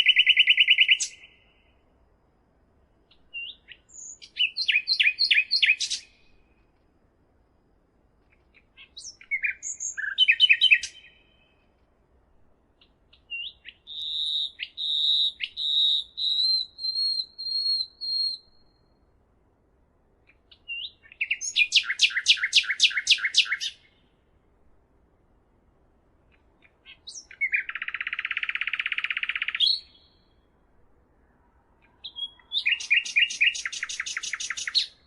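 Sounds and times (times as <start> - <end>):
songbird singing: 0.0 - 2.2, 3.0 - 6.8, 8.2 - 12.0, 12.6 - 19.4, 20.2 - 24.8, 26.1 - 35.0.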